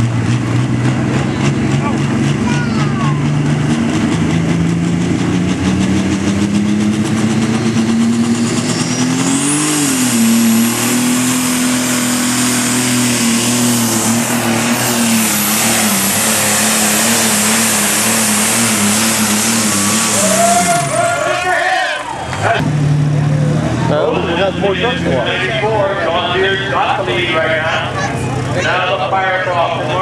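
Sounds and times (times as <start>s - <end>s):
diesel tractor engine under load: 0.0s - 30.0s.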